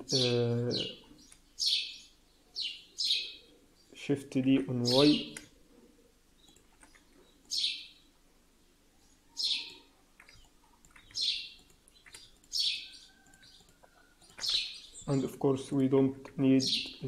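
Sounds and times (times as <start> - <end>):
bird chirping: 0.0 - 5.6, 6.3 - 17.0.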